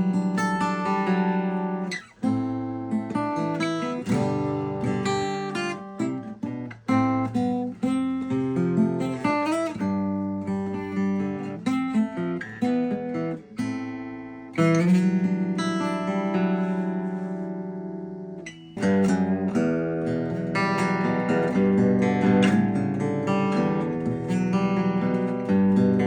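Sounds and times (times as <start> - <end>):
acoustic guitar strummed and picked: 0.0 - 26.0.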